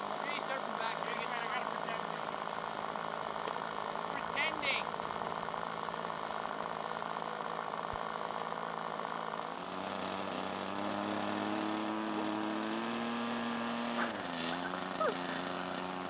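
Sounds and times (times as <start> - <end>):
model airplane engine idling: 0.0 - 16.0.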